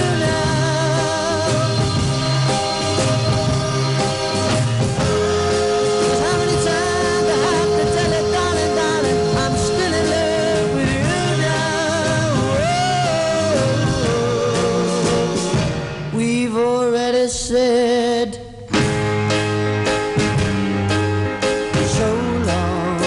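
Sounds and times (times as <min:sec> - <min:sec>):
pop record with singer and band: 0:00.0 - 0:23.0.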